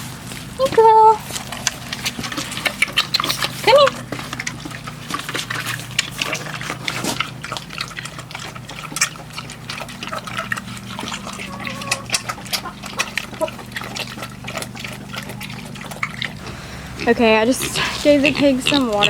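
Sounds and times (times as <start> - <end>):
pigs chewing and smacking: 0.0 - 19.0.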